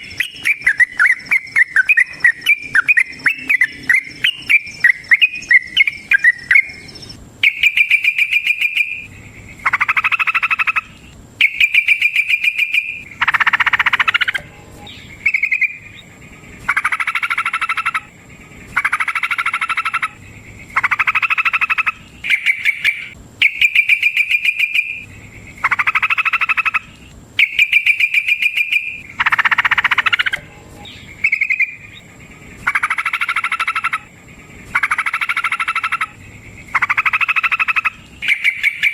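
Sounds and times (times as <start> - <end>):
bird chattering trills: 0.0 - 38.9.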